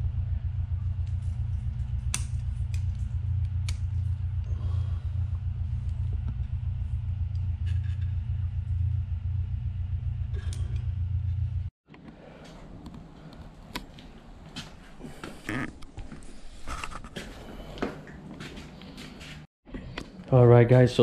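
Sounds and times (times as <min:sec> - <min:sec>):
steady low rumble: 0:00.0 - 0:17.8.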